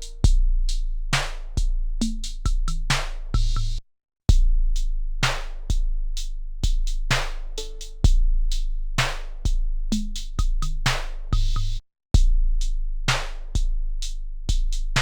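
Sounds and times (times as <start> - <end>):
hip-hop drum beat: 0.0 - 15.0.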